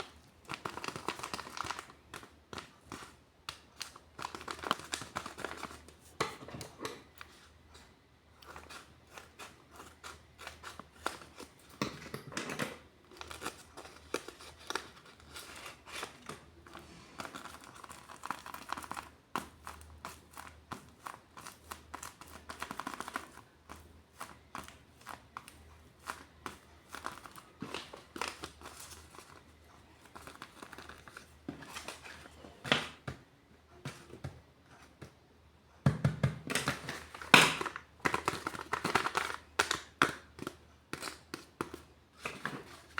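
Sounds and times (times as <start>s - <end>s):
paper crinkling and rustling: 0.0s - 33.0s, 36.6s - 42.9s.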